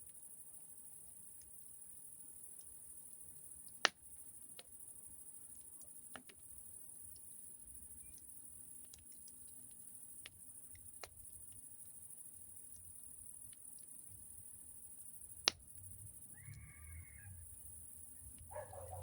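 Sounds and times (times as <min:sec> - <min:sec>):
wood fire crackling: 0:01.0 - 0:19.0.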